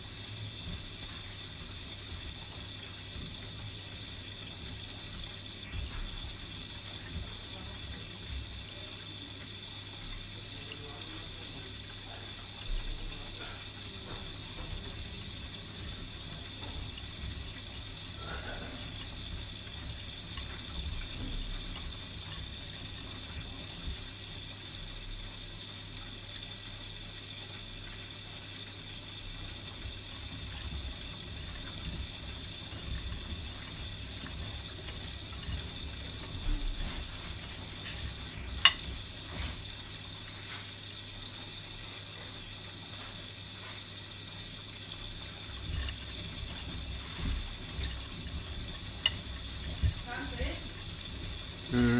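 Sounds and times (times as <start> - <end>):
laundry sloshing in washing machine: 0.0 - 51.9
washing machine hum: 0.0 - 51.9.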